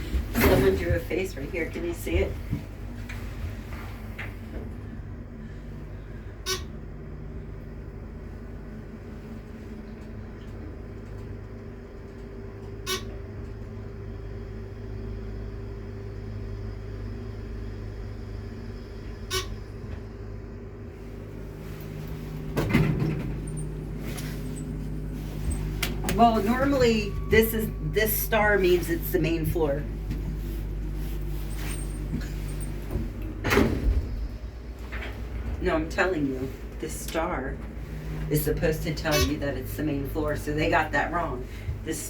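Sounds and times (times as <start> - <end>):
elevator running hum: 0.0 - 42.0.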